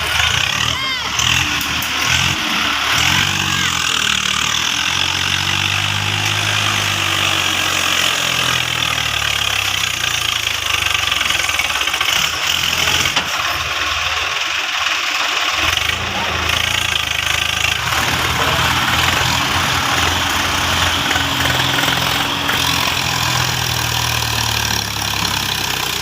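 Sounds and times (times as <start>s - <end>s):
tractor diesel engine revving: 0.0s - 26.0s.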